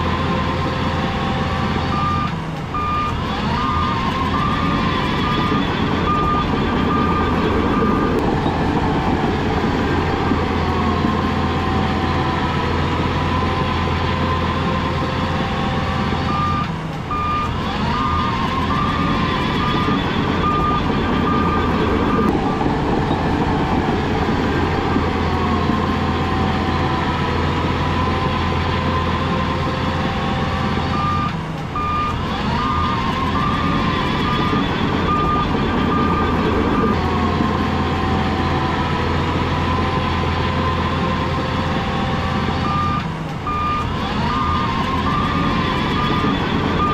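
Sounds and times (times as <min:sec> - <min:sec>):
bulldozer engine running: 0:00.0 - 0:46.9
reverse alarm beeping: 0:00.1 - 0:46.9.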